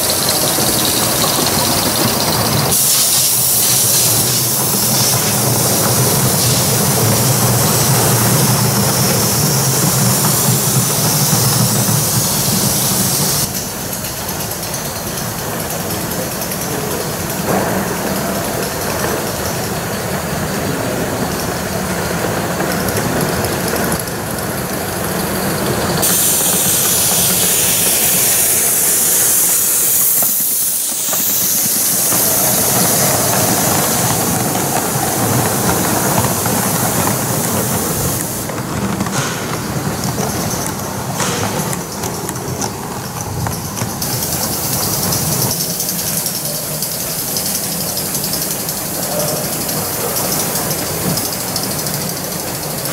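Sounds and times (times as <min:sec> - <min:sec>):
steam hiss: 0:00.0 - 0:52.9
wagon wheels rumbling on track: 0:00.0 - 0:52.9.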